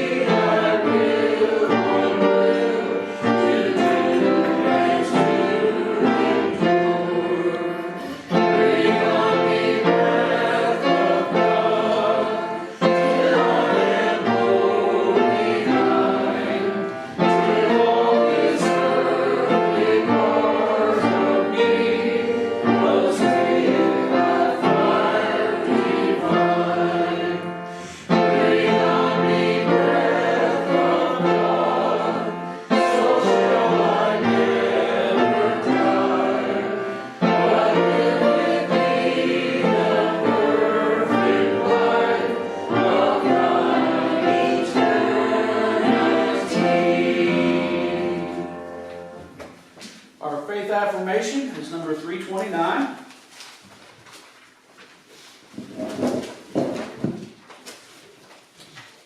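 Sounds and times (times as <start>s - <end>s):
congregation singing a hymn: 0.0s - 50.9s.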